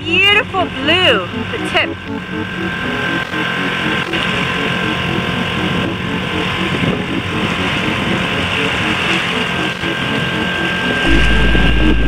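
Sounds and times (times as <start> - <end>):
boat engine droning: 0.0 - 12.0
wind and water noise: 0.0 - 12.0.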